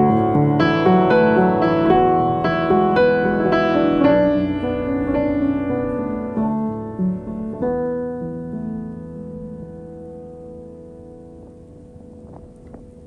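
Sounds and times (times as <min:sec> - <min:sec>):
gentle solo piano piece: 0:00.0 - 0:13.0.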